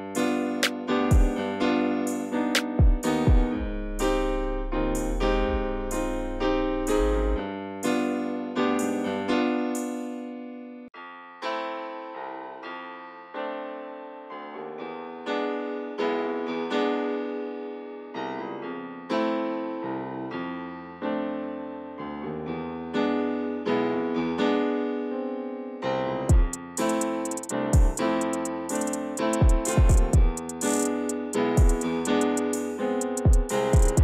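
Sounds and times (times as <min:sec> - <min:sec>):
slow calm piano melody: 0:00.0 - 0:34.0.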